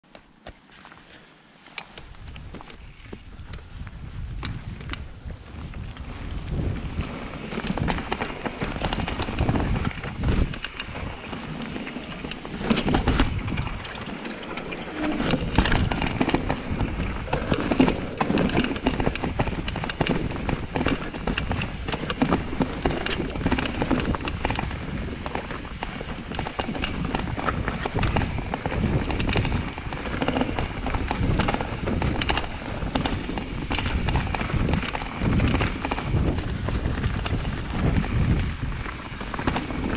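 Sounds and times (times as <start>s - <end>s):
bike knocks and rattles: 1.9s - 39.9s
bike tyres rolling over rock and dirt: 1.9s - 39.9s.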